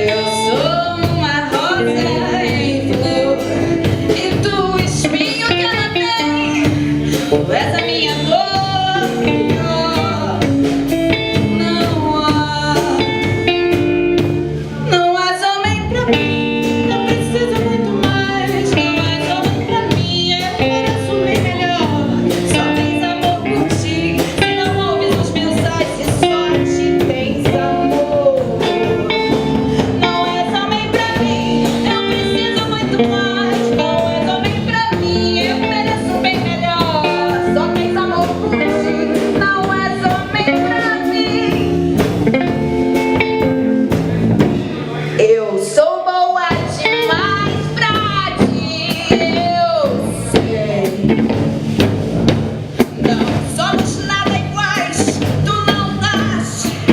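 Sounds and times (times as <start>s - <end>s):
woman singing: 0.0s - 43.8s, 45.2s - 52.0s, 52.8s - 56.9s
bass guitar: 0.0s - 56.9s
drums: 0.0s - 56.9s
electric guitar: 0.0s - 56.9s.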